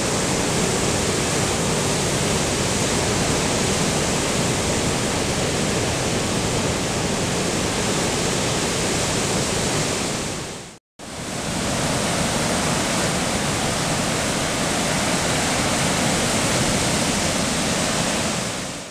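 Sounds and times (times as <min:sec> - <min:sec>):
ocean surf rushing: 0:00.0 - 0:18.9.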